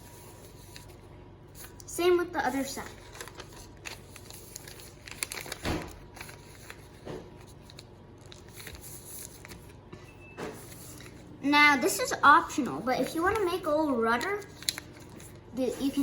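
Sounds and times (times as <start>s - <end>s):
paper rustling and crinkling: 0.0s - 1.0s, 1.6s - 11.3s, 12.6s - 16.0s.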